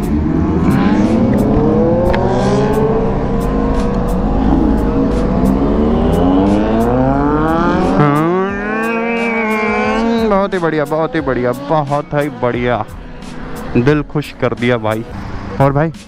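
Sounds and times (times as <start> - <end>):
motorcycle engines revving: 0.0 - 15.8.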